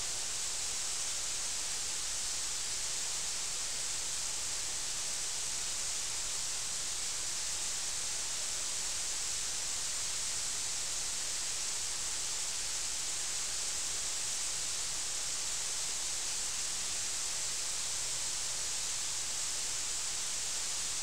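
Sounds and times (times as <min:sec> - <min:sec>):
waterfall hiss: 0:00.0 - 0:21.0.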